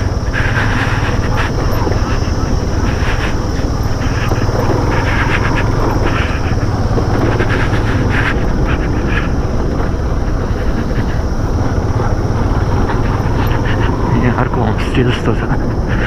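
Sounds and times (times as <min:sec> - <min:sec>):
vehicle engine droning: 0:00.0 - 0:16.0
wind rushing over microphone: 0:00.0 - 0:16.0.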